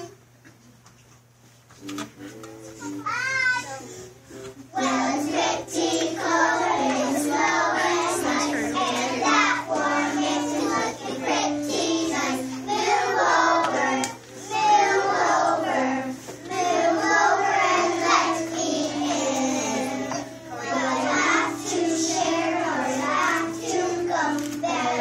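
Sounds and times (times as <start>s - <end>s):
children's choir singing: 4.7s - 25.0s.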